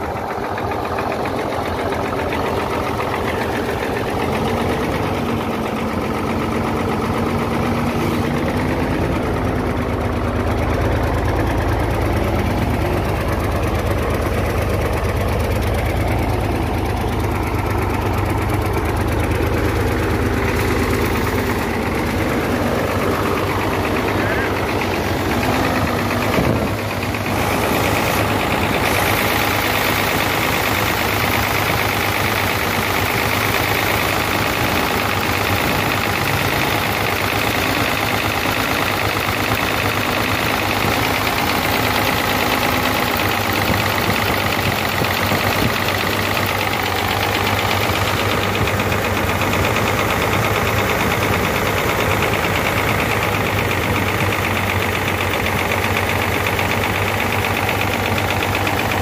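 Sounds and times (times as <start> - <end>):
diesel engine idling with knock: 0.0 - 59.0.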